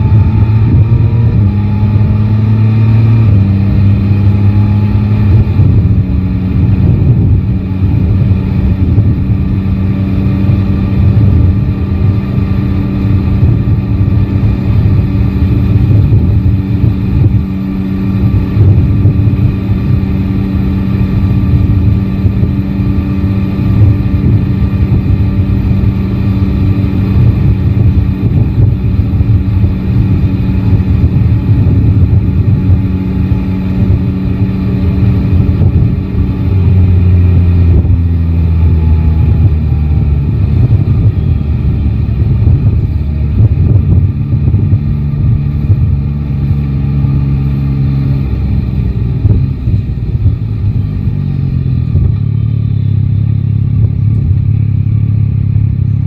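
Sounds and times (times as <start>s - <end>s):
motorcycle engine cruising: 0.0s - 56.0s
wind rumble on microphone: 0.0s - 56.0s.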